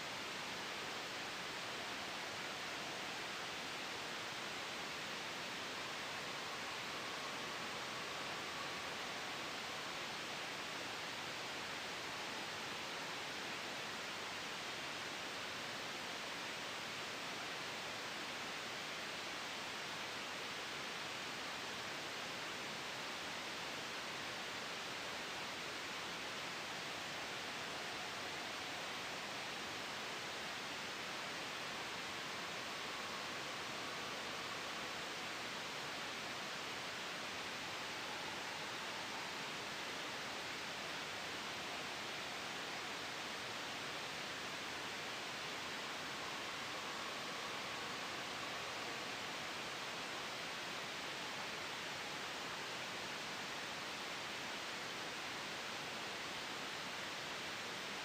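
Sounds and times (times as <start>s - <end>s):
gentle breeze: 0.0s - 58.0s
soft white noise hiss: 0.0s - 58.0s.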